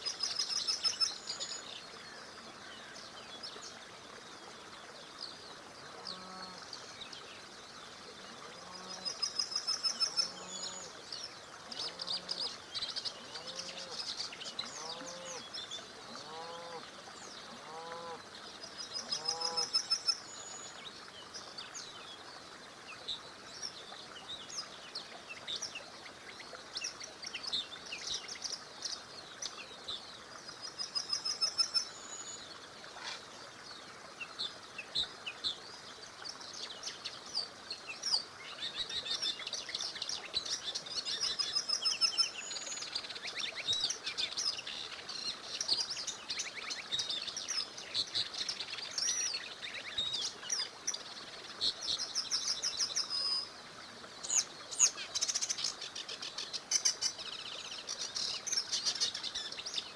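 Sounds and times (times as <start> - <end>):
faint steady hiss: 0.0 - 59.9
songbirds chirping and trilling: 0.0 - 59.9.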